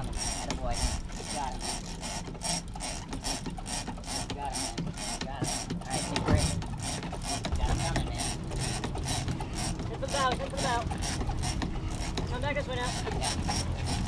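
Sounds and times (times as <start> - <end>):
fishing reel gears clicking: 0.0 - 14.0.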